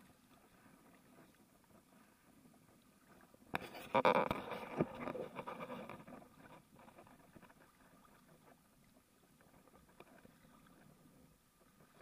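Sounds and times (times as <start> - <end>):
water lapping along hull: 0.0 - 12.0.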